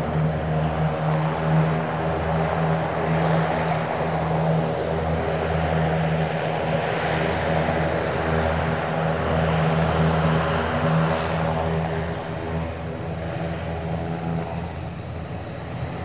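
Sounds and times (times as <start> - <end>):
turboprop engines running: 0.0 - 16.0.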